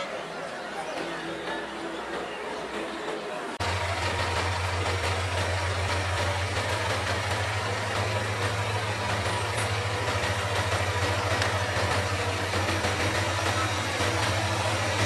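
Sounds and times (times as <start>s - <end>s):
diesel engine running: 0.1s - 15.0s.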